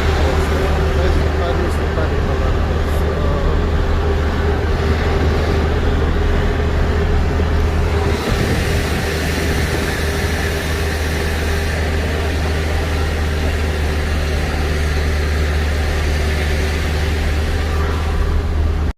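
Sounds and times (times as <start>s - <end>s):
road noise: 0.0s - 18.9s
truck engine humming: 0.0s - 18.9s.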